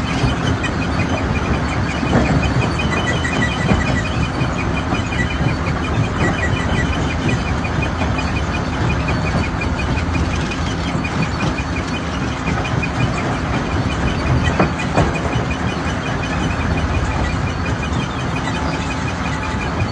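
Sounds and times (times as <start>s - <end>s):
fast even ticking: 0.0s - 19.9s.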